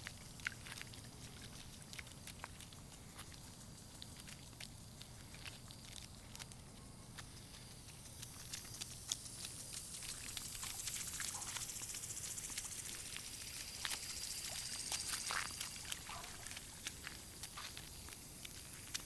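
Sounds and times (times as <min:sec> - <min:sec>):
small feet splashing in puddle: 0:00.0 - 0:19.0.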